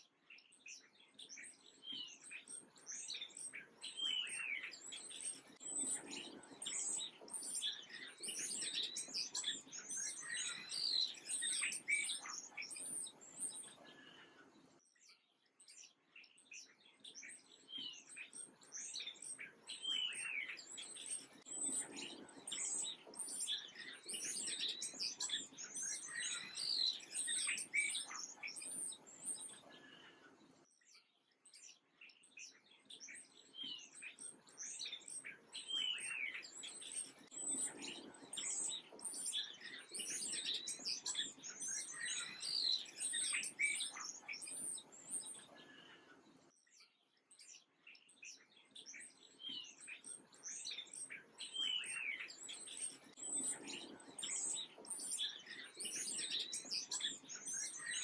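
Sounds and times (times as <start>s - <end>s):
songbirds chirping and twittering: 0.0s - 58.0s.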